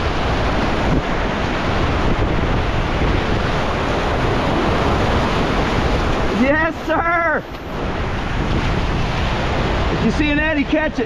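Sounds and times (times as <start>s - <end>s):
whitewater rushing: 0.0s - 11.0s
wind buffeting microphone: 0.0s - 11.0s.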